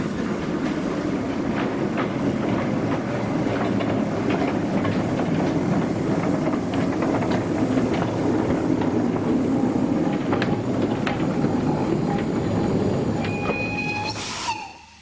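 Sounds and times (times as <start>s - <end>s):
wheels clicking over rail joints: 0.0s - 13.8s
train rumbling on track: 0.0s - 15.0s.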